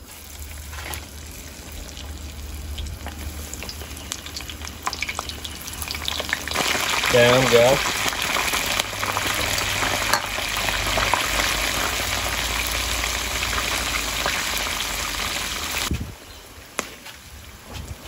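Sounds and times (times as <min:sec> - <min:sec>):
fish deep-frying in oil: 0:00.0 - 0:15.9.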